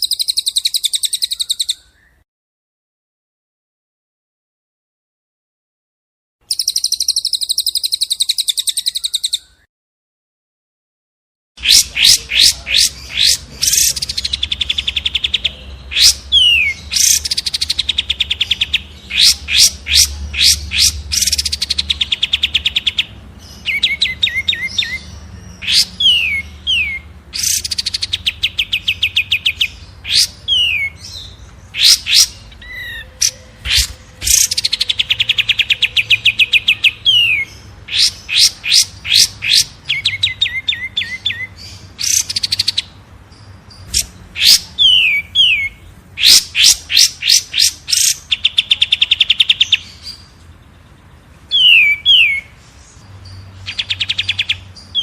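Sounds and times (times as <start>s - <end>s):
songbird singing trills and chirps: 0.0s - 2.2s, 6.4s - 9.7s, 11.6s - 55.0s.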